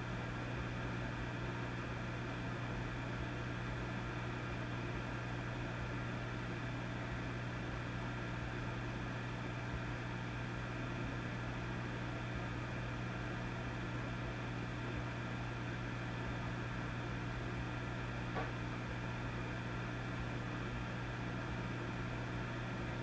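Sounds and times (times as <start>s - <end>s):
amplifier mains hum: 0.0s - 23.0s.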